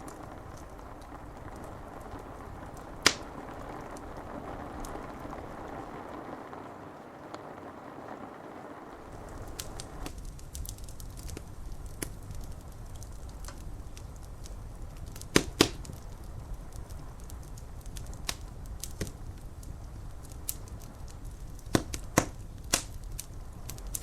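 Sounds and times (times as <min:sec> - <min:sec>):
rain on window glass: 0:00.0 - 0:24.0
wood fire crackling: 0:00.0 - 0:24.0.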